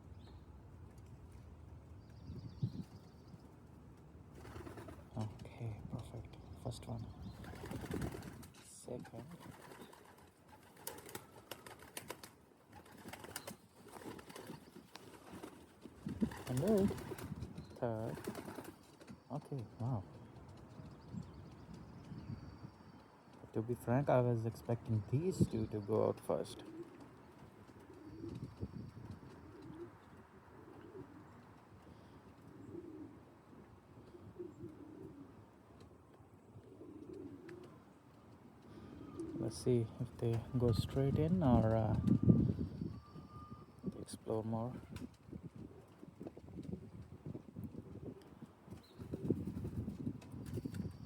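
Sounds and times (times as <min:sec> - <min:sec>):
pigeons cooing: 0:04.4 - 0:20.6, 0:25.0 - 0:51.0.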